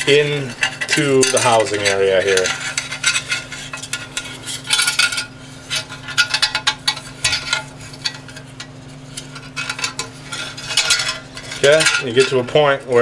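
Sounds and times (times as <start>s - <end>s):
spring scraping and clinking on metal: 0.0s - 13.0s.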